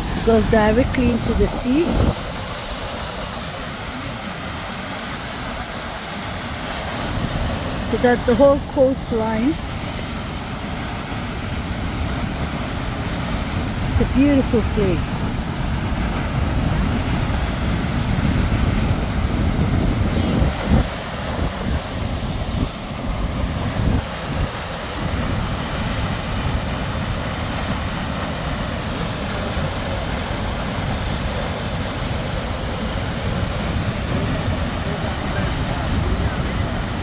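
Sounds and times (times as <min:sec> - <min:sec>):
wind buffeting microphone: 0:00.0 - 0:04.2, 0:06.6 - 0:37.0
waterfall rushing: 0:00.0 - 0:37.0.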